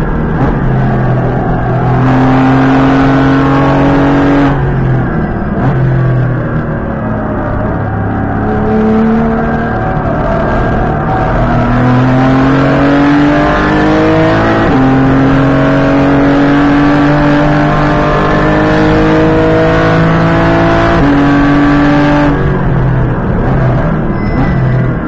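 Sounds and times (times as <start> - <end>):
car engine at full throttle: 0.0 - 25.0.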